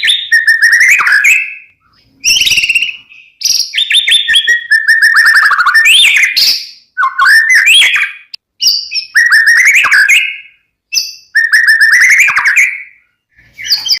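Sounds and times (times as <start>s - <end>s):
bird singing whistles: 0.0s - 14.0s.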